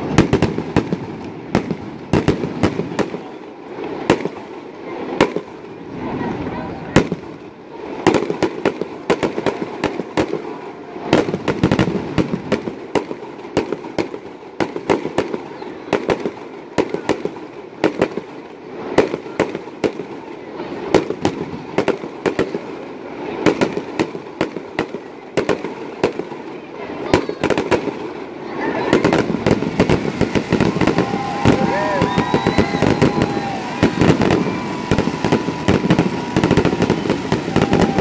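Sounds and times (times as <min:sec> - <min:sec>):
fireworks bangs: 0:00.0 - 0:38.0.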